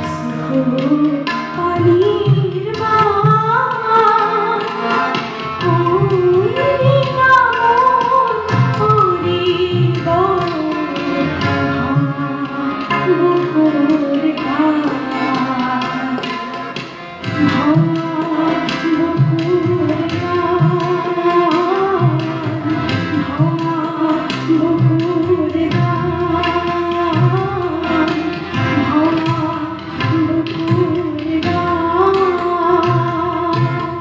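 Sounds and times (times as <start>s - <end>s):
steady percussion: 0.0s - 34.0s.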